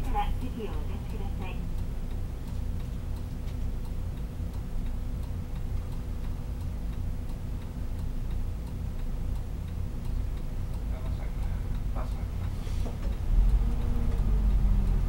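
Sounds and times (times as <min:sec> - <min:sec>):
bus engine idling: 0:00.0 - 0:15.0
turn-signal relay ticking: 0:00.0 - 0:15.0.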